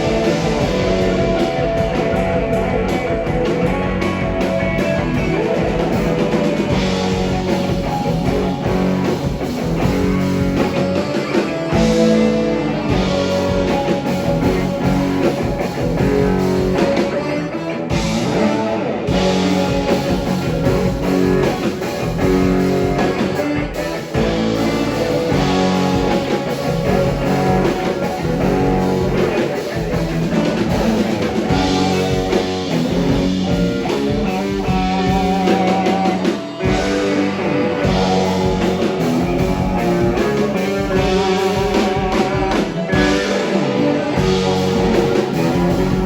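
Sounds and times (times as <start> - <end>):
drum kit: 0.0 - 46.0
electric guitar: 0.0 - 46.0
live rock band playing: 0.0 - 46.0.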